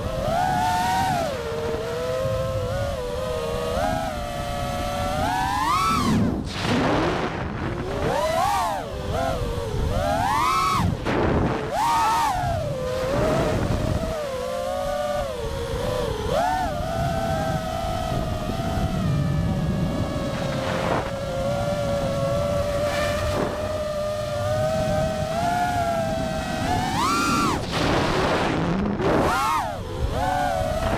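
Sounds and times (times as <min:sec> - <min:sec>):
drone motors whining: 0:00.0 - 0:30.9
low wind rush: 0:00.0 - 0:30.9.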